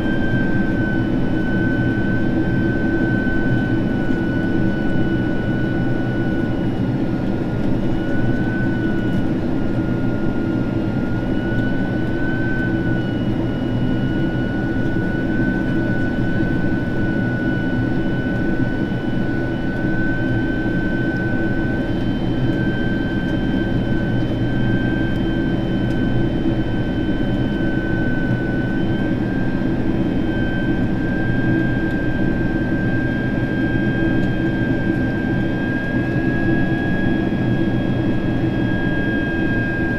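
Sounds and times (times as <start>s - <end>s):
high fan whine: 0.0s - 39.9s
jet engine and airflow rumble: 0.0s - 39.9s.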